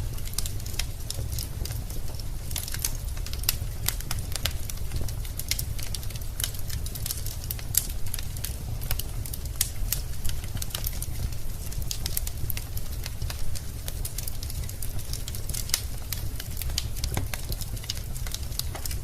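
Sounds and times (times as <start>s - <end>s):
low rumble of burning logs: 0.0s - 19.0s
wood fire crackling: 0.0s - 19.0s.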